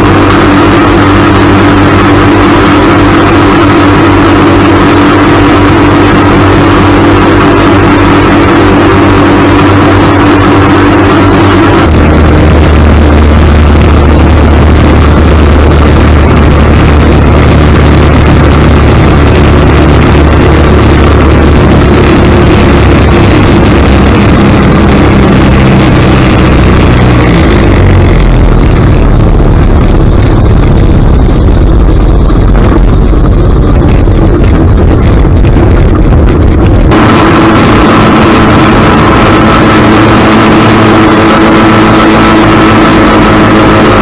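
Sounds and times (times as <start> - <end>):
engine and propeller running: 0.0 - 44.0
wind rushing over microphone: 0.0 - 44.0.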